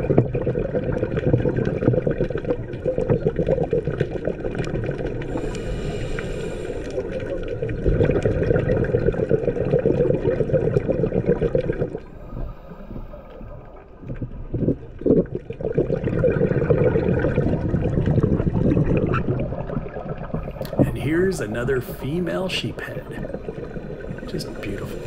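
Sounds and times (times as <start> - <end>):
muffled underwater bubbling: 0.0 - 25.0.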